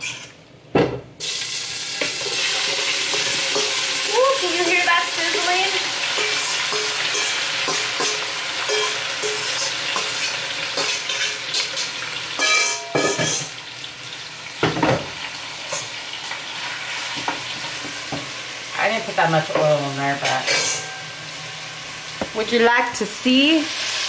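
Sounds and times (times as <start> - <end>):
rice sizzling in hot oil: 1.2 - 22.6, 23.3 - 24.0.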